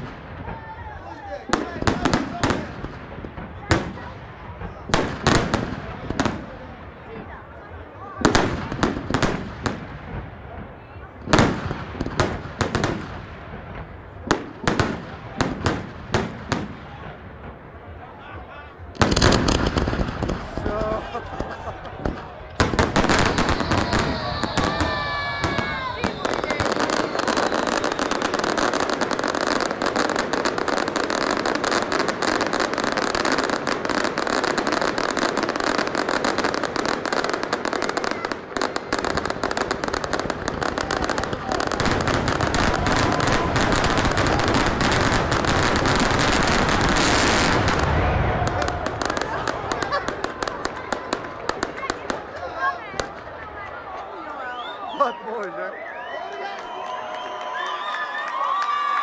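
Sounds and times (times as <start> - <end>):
fireworks bangs: 0.0 - 54.9.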